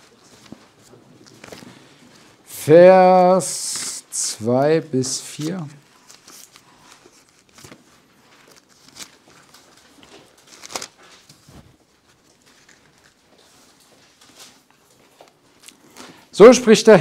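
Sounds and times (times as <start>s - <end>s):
pages rustling: 0.0s - 2.4s, 3.0s - 16.2s.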